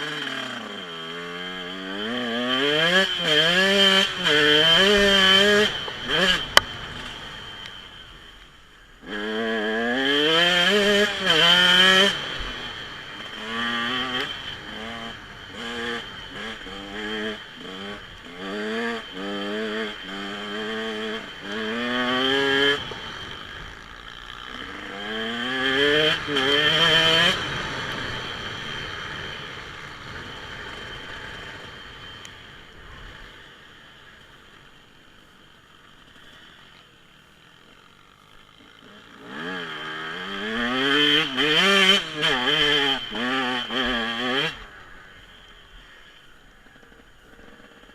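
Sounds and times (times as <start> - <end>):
dirt bike engine accelerating: 0.0 - 47.9.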